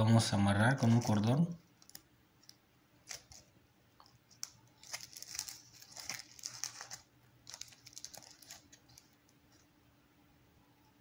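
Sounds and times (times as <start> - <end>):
plastic bag crinkling: 0.8 - 9.6.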